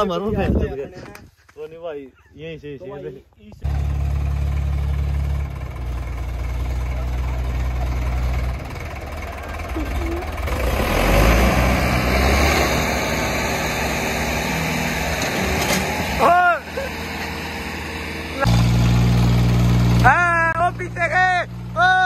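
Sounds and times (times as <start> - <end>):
diesel tractor engines running hard: 3.6 - 22.0.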